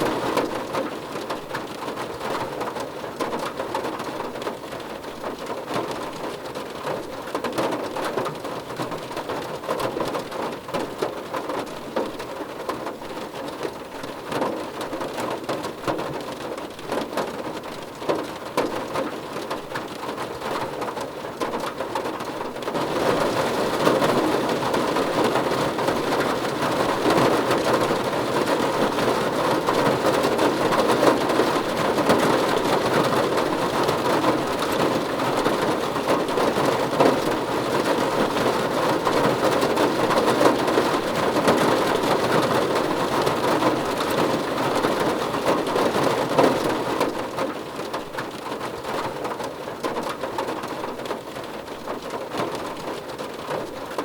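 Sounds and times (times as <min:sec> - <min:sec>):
rain drumming on a car roof: 0:00.0 - 0:54.0.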